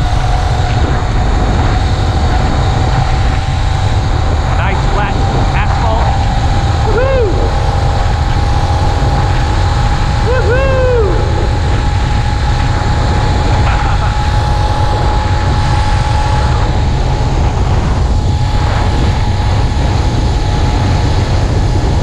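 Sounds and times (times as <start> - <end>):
small engine running steadily: 0.0 - 22.0
wind rumble on microphone: 0.0 - 22.0.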